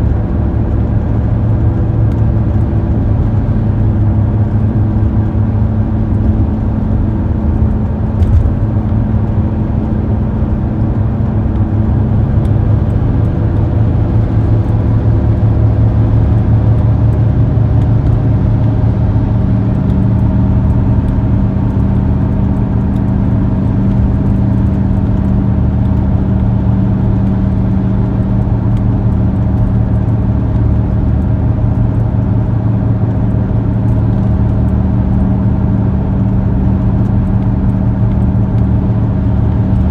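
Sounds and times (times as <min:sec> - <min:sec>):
car engine and road drone: 0:00.0 - 0:39.9.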